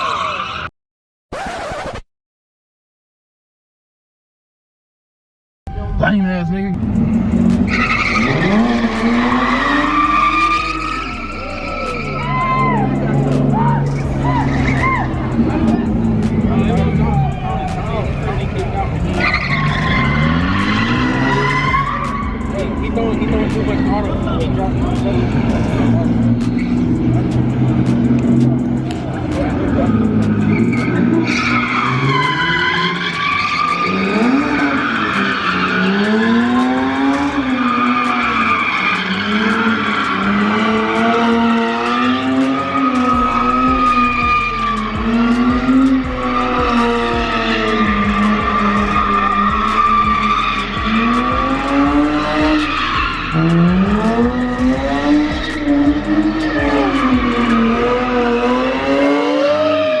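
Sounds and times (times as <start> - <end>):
car engine revving: 6.7 - 60.0
tyres squealing: 7.5 - 60.0.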